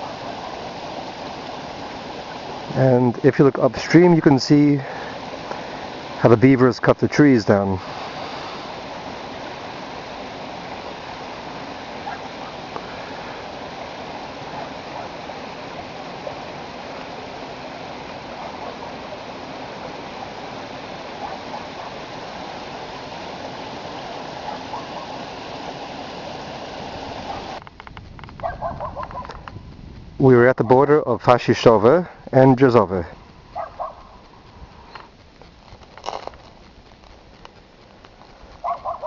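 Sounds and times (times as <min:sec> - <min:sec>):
stream water running: 0:00.0 - 0:39.0.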